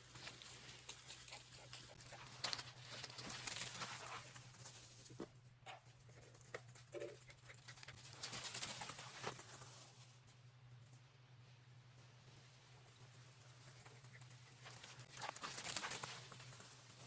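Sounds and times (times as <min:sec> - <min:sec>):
dog paws pattering and scuffling: 0:00.0 - 0:10.3, 0:13.2 - 0:17.0.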